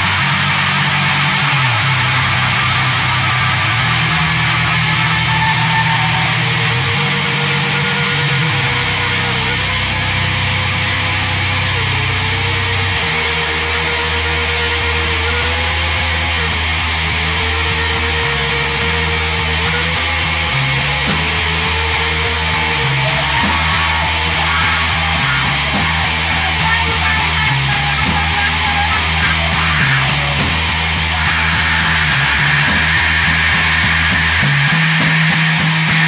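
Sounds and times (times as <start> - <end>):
distorted guitar: 0.0 - 36.0
low bass line: 0.0 - 36.0.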